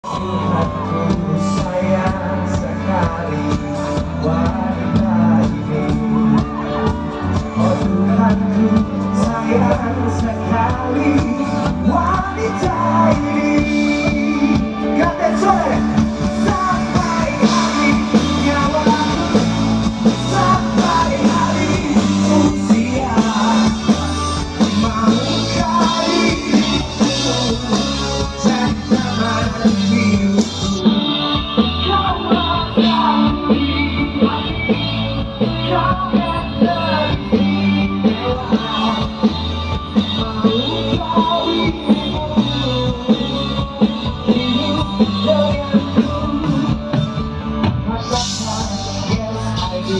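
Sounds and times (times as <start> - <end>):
person singing: 0.0 - 49.9
rock band with guitar and bass: 0.0 - 49.9.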